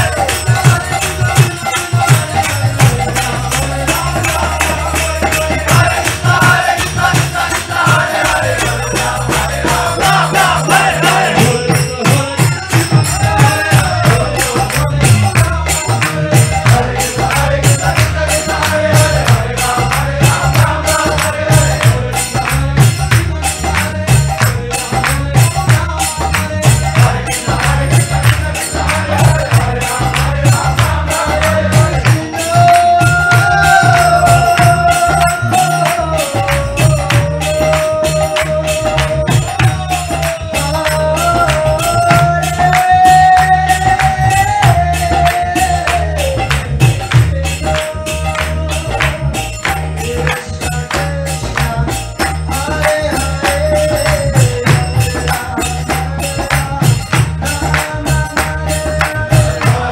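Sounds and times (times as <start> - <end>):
chanting voices: 0.0 - 59.9
jingling hand percussion: 0.0 - 59.9.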